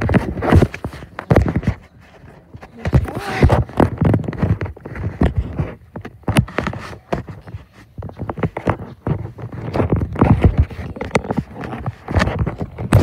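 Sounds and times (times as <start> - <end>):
rustling rubs against microphone: 0.0 - 13.0.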